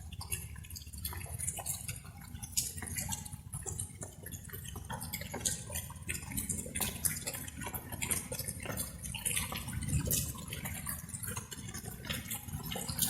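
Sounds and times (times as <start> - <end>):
light rain dripping: 0.0 - 13.0.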